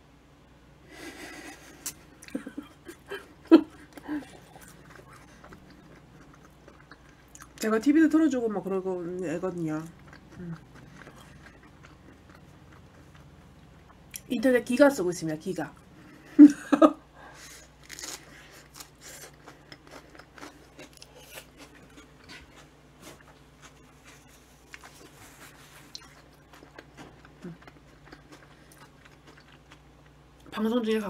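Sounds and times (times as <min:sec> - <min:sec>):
chewing and biting bread: 0:01.0 - 0:07.9, 0:08.7 - 0:14.3, 0:17.4 - 0:30.3.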